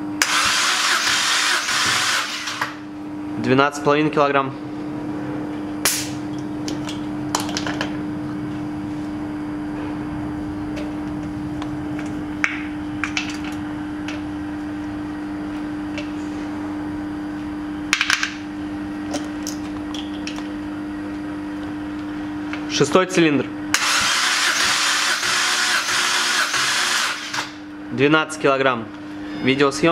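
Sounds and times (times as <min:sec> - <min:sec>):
steady electrical hum: 0:00.0 - 0:29.9.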